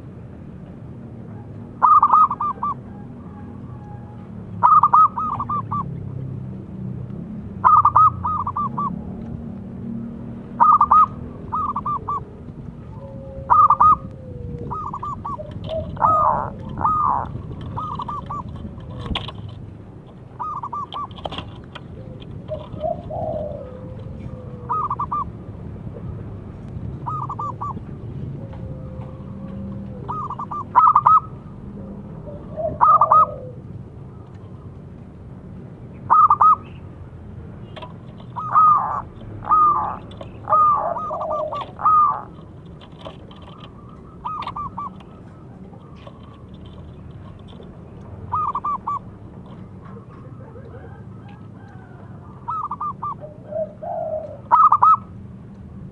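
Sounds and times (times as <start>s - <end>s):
dove cooing in staccato notes: 1.2s - 6.1s, 7.6s - 9.5s, 10.4s - 26.3s, 27.0s - 34.8s, 36.0s - 36.9s, 37.6s - 55.2s.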